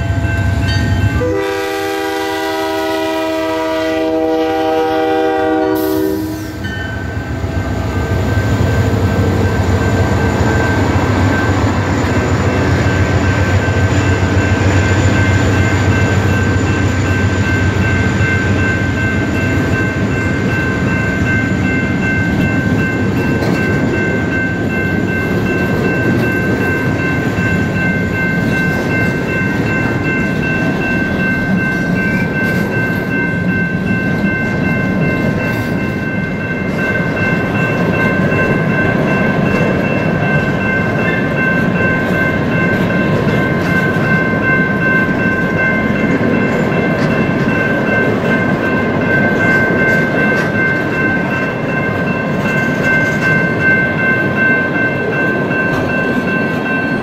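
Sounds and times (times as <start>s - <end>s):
high ringing tones: 0.0s - 1.7s, 5.5s - 57.0s
train wheels rumbling on rail: 0.0s - 57.0s.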